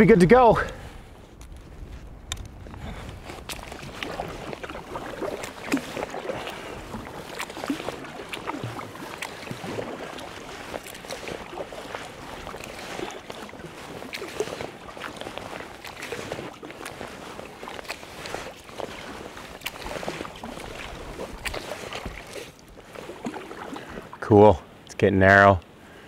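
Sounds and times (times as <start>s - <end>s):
kayak paddle splashing in water: 2.1s - 24.3s
water drips and splashes: 2.3s - 25.0s.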